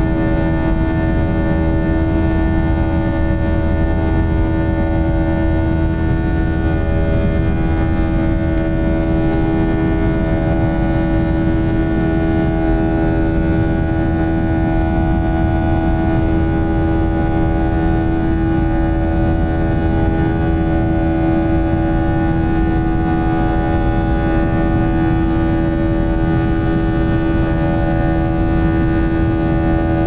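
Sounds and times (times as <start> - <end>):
jet engines droning in cabin: 0.0 - 30.0.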